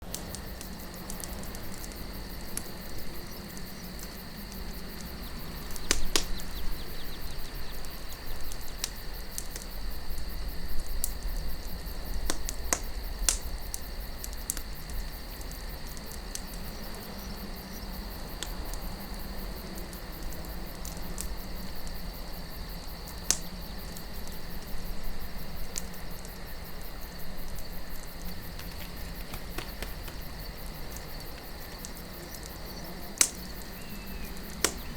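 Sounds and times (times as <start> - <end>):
campfire crackling and popping: 0.0 - 34.9
crickets chirping: 0.0 - 34.9.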